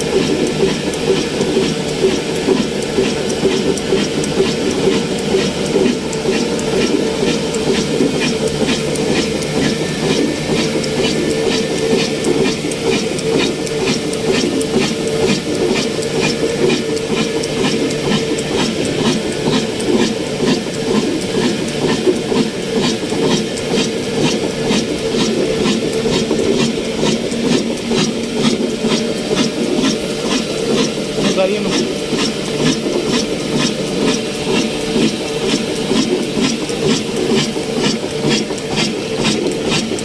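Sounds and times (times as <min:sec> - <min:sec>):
diesel engine running with sharp ticking: 0:00.0 - 0:40.0.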